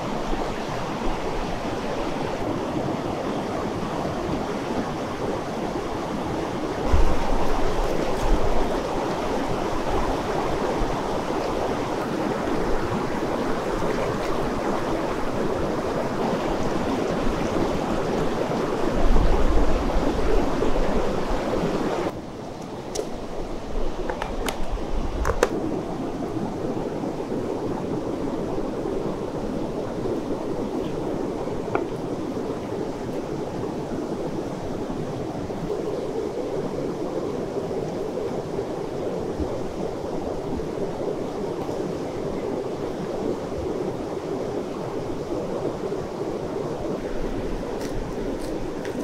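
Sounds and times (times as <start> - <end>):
river rushing: 0.0 - 49.0.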